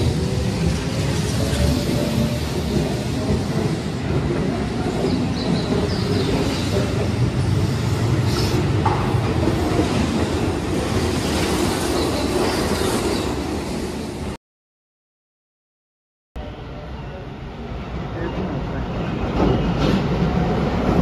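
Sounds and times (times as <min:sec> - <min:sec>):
train wheels rumbling on rails: 0:00.0 - 0:14.4, 0:18.1 - 0:21.0.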